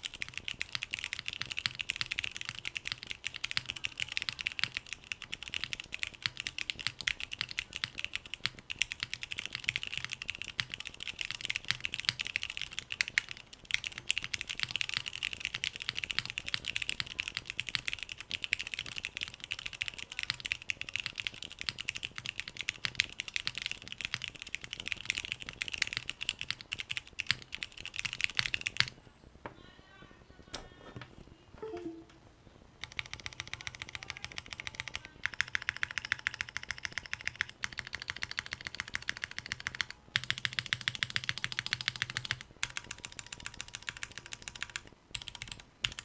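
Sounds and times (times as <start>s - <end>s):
fast mechanical keyboard typing: 0.0s - 29.0s, 32.8s - 46.0s.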